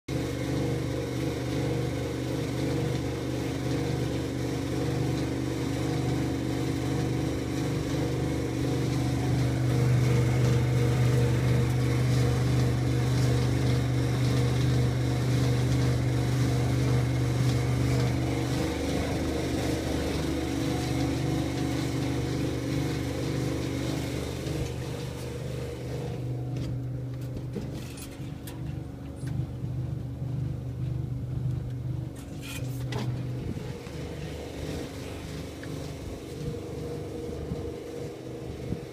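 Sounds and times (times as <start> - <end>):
tumble dryer running: 0.1 - 38.9.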